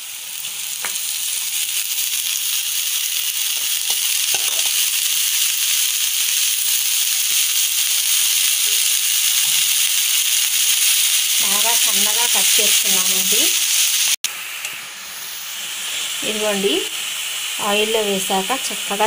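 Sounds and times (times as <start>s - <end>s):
leaves sizzling in hot oil: 0.0s - 19.0s.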